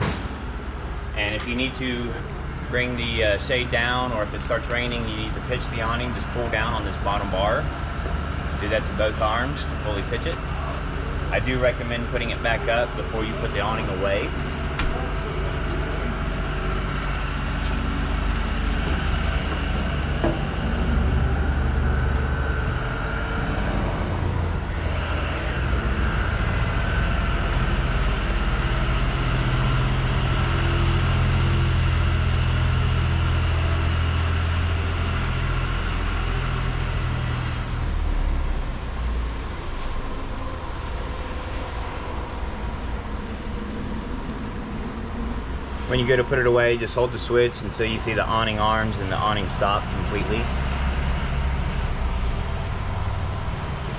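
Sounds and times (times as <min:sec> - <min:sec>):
electric awning motor humming: 0:00.0 - 0:53.9.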